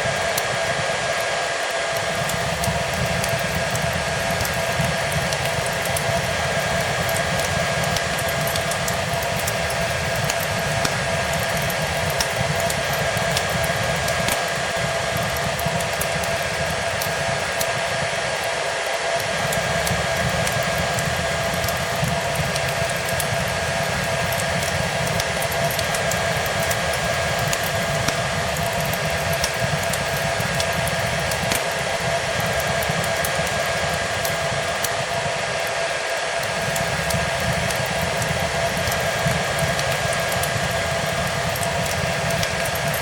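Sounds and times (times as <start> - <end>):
fireplace crackling: 0.0 - 43.0
hair dryer blowing: 0.0 - 43.0.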